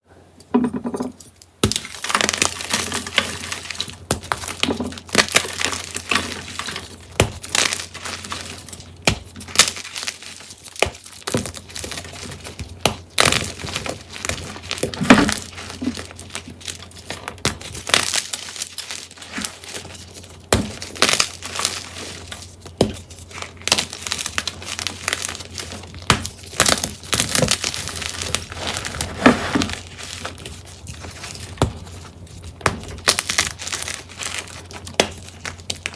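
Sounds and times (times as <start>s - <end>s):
chalk cracking and crunching: 1.4s - 35.9s.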